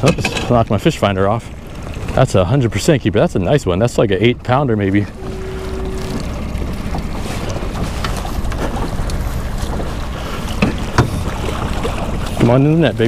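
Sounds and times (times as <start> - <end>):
low rumble of small boat: 0.0 - 13.0.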